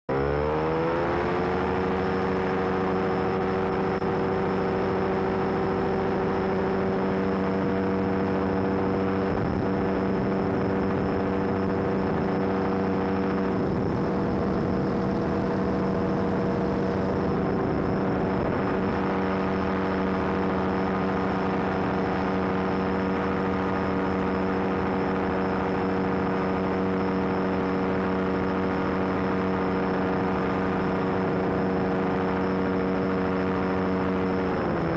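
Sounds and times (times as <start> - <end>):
microlight engine at takeoff power: 0.1 - 34.9.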